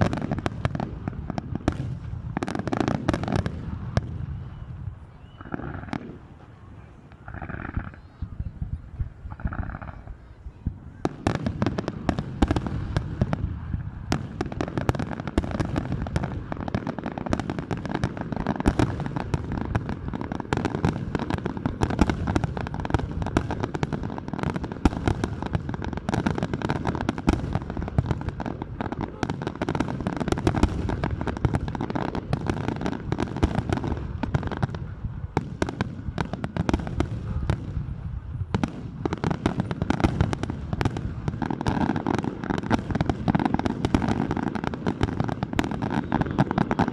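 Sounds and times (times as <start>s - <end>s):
fireworks bursts and crackling: 0.0s - 46.9s.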